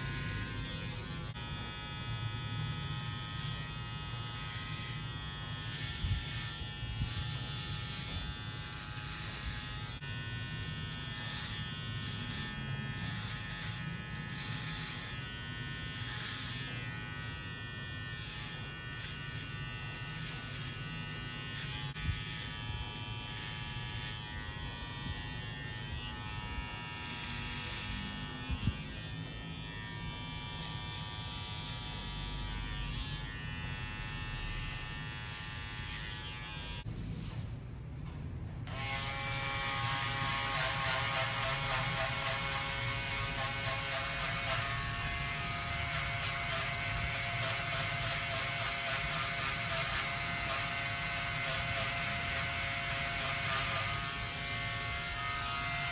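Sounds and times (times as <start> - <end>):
electric hair clipper buzzing: 0.0 - 36.9, 38.7 - 55.9.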